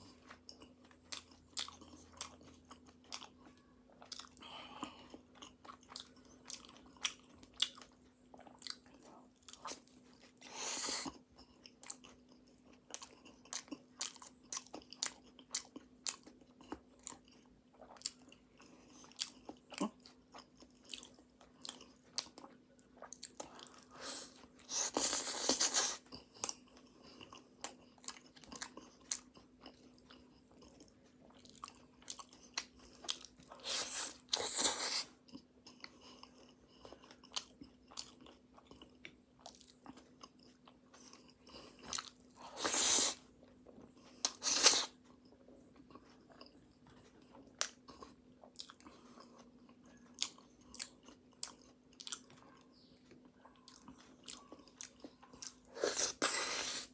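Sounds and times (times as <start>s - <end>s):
chewing pastry: 0.0s - 56.9s
faint steady hum: 0.0s - 56.9s.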